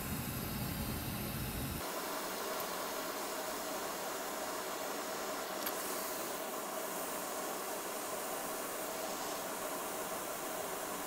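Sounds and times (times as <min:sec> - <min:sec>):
faint hum: 0:00.0 - 0:11.0
fan-like hiss: 0:00.0 - 0:11.0.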